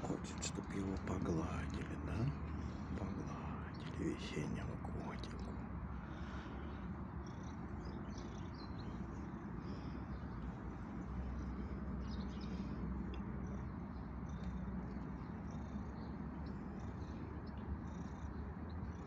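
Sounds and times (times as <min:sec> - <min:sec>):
cat purring: 0:00.0 - 0:19.0
faint bird chirps: 0:00.0 - 0:19.0.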